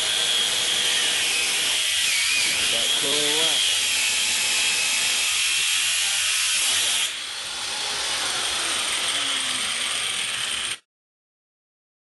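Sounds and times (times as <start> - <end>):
angle grinder whining: 0.0 - 10.8.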